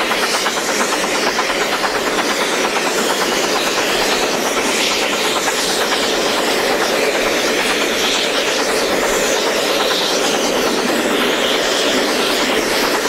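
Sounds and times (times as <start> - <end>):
steam locomotive exhaust beats: 0.0 - 13.0.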